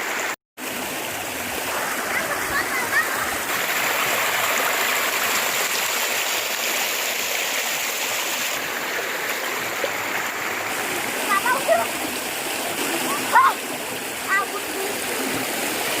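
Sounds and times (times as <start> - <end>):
river water rushing over stones: 0.0 - 16.0.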